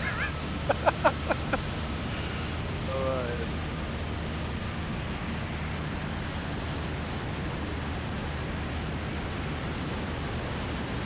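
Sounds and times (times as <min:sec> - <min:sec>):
plane engine and propeller droning: 0:00.0 - 0:11.0
rush of air noise: 0:00.0 - 0:11.0.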